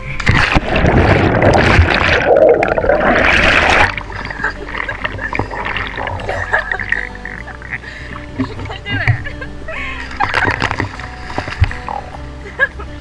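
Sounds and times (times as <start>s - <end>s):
water rushing and bubbling: 0.0s - 12.5s
water splashing and lapping: 0.0s - 13.0s.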